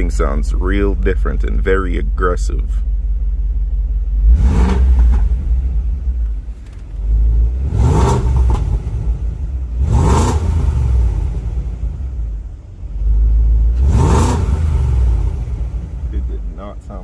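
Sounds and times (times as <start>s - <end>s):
engine revving with deep rumble: 0.0s - 17.0s.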